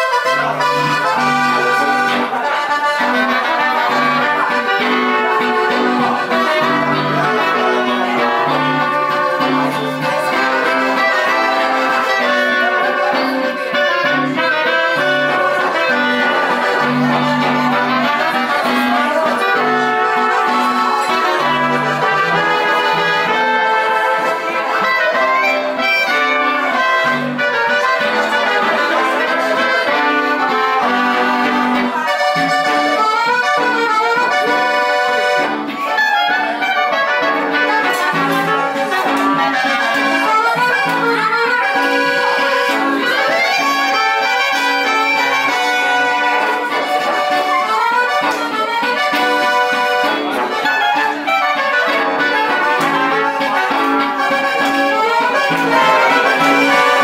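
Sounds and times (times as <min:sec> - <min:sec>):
accordion: 0:00.0 - 0:57.0
brass instruments playing: 0:00.0 - 0:57.0.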